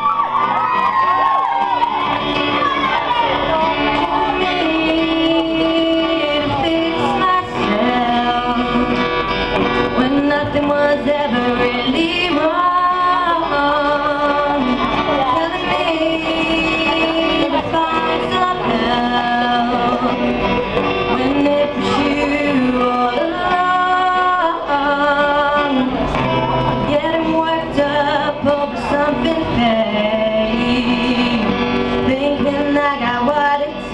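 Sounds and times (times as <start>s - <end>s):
instrumental accompaniment: 0.0s - 33.9s
female and male voices singing: 1.2s - 9.2s, 9.8s - 20.5s, 21.1s - 26.1s, 26.8s - 33.9s.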